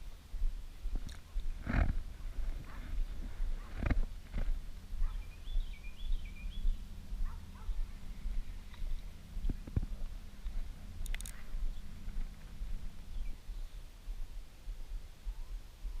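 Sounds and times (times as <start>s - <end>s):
low microphone rumble: 0.0s - 16.0s.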